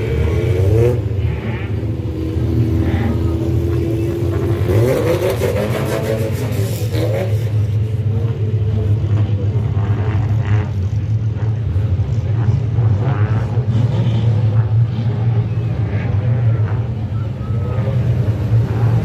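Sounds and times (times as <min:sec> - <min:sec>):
faint voices: 0:00.0 - 0:19.0
race car engines rumbling: 0:00.0 - 0:19.0.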